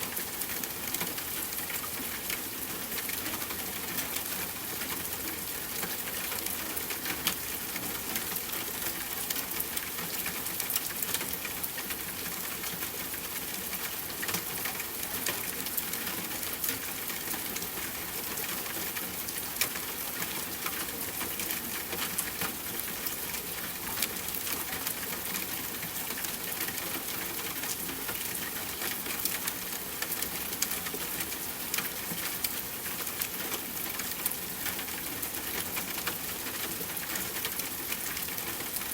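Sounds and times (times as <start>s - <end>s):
soft rainfall: 0.0s - 38.9s.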